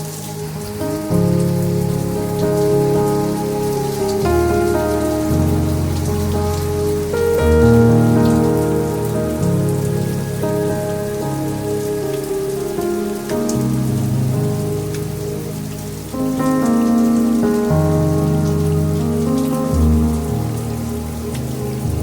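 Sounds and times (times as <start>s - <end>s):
rain falling: 0.0s - 22.0s
slow held music chords: 0.0s - 22.0s.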